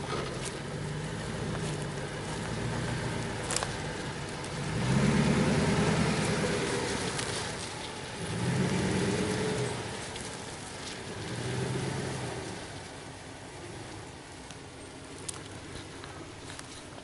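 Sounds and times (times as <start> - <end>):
pickup truck engine revving: 0.0 - 14.4.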